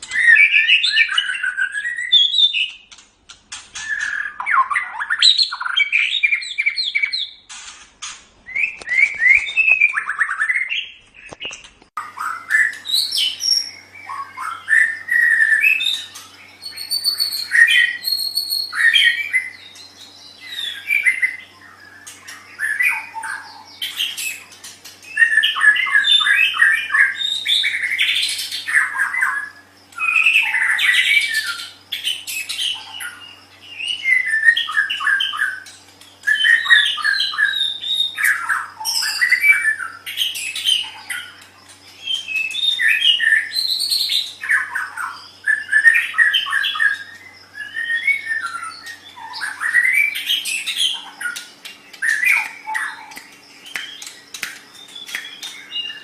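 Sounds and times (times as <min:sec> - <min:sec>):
bird singing whistled phrases: 0:00.0 - 0:02.8, 0:03.8 - 0:07.4, 0:08.5 - 0:11.0, 0:12.0 - 0:24.4, 0:25.0 - 0:41.3, 0:42.0 - 0:51.4.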